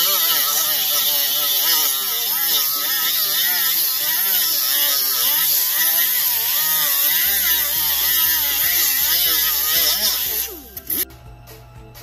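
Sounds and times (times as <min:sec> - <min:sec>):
die grinder whining on metal: 0:00.0 - 0:11.1.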